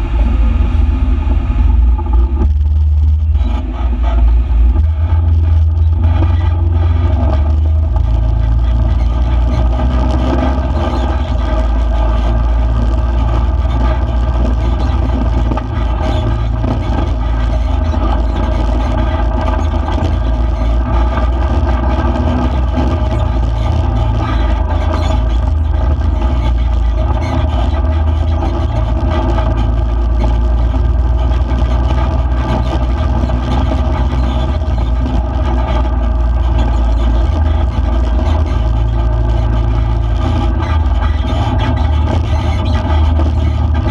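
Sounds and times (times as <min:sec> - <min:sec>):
rumble of driving on dirt road: 0:00.0 - 0:43.9
vehicle engine running: 0:00.0 - 0:43.9.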